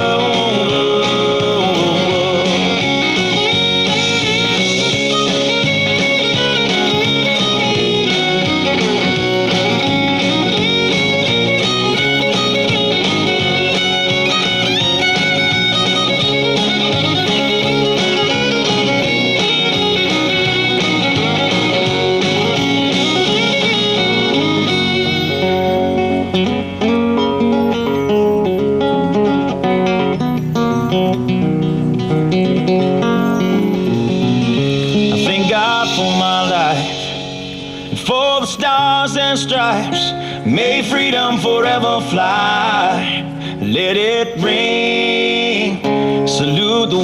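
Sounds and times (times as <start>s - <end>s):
country band playing: 0.0s - 47.0s
lead guitar: 0.0s - 47.0s.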